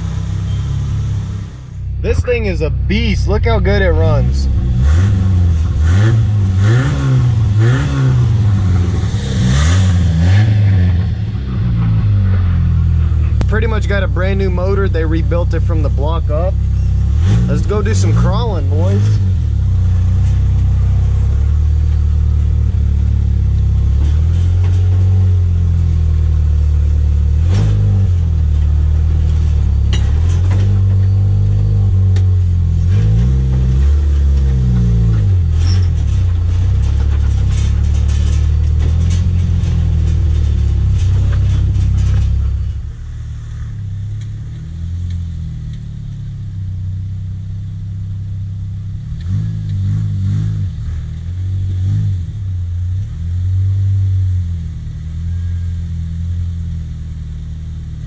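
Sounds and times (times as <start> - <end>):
distant engine: 0.0 - 57.2
car engine accelerating: 0.0 - 58.0.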